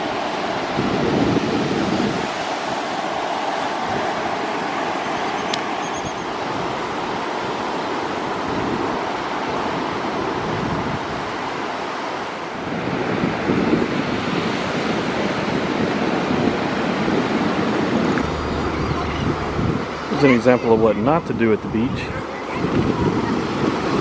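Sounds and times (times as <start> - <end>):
wind on microphone: 0.0 - 11.9, 12.5 - 24.0
surf washing onto beach: 0.0 - 24.0.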